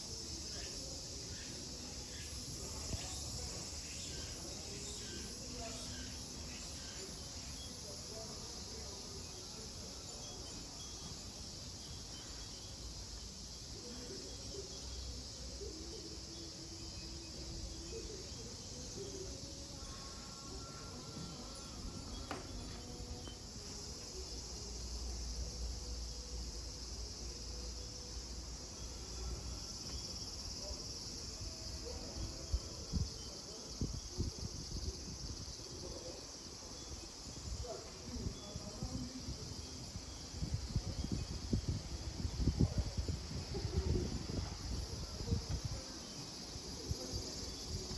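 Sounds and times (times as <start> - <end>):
cicadas droning: 0.0 - 47.9.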